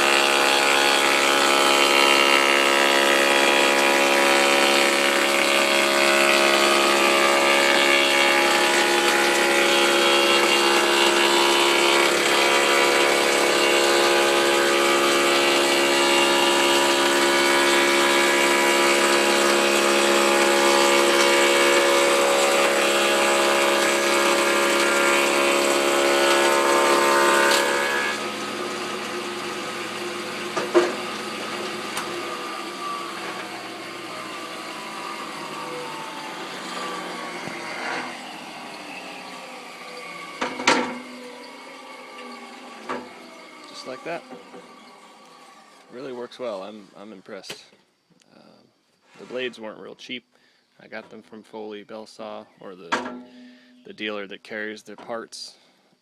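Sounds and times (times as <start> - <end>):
planer machine cutting wood: 0.0 - 46.8.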